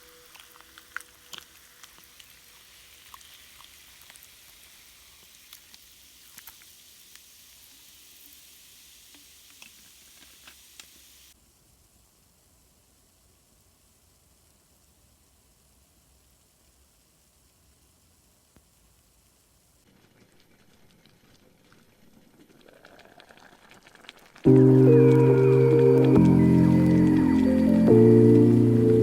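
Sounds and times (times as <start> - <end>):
food sizzling in a pan: 0.0 - 29.0.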